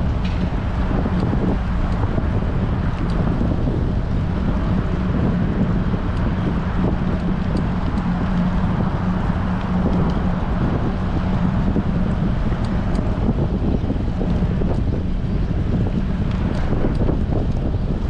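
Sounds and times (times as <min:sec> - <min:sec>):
low hum: 0:00.0 - 0:18.0
wind rushing over microphone: 0:00.0 - 0:18.0.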